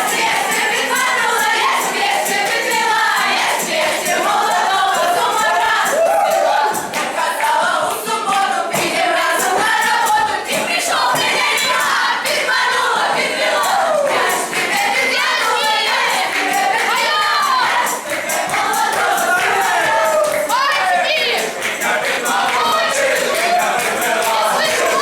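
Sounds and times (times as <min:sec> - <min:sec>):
children singing together: 0:00.0 - 0:25.0.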